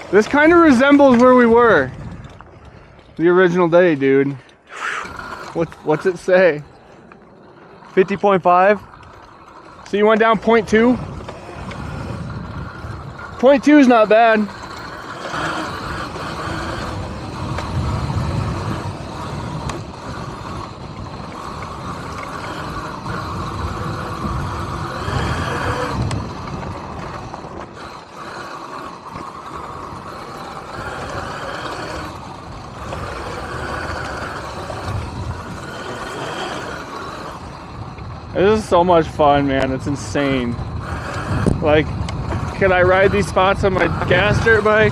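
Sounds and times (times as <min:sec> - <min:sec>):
wind rush: 0:00.0 - 0:03.5, 0:10.0 - 0:14.8, 0:15.4 - 0:28.0, 0:29.1 - 0:44.9.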